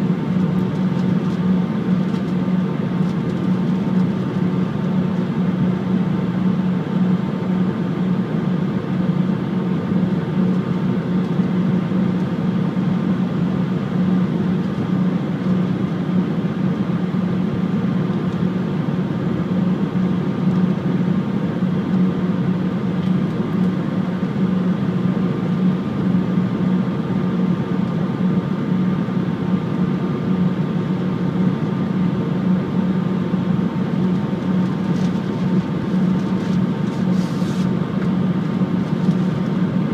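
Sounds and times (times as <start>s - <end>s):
aircraft cabin drone: 0.0s - 39.9s.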